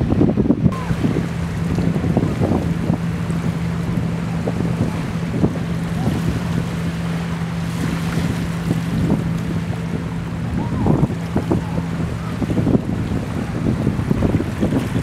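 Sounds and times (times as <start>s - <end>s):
motorboat engine drone: 0.0s - 15.0s
wind buffeting microphone: 0.0s - 15.0s
waves washing on rocks: 0.7s - 15.0s.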